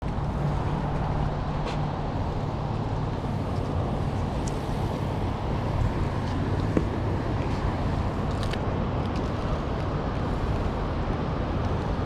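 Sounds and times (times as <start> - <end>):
street traffic noise: 0.0 - 12.0
vehicle engine humming: 0.0 - 12.0.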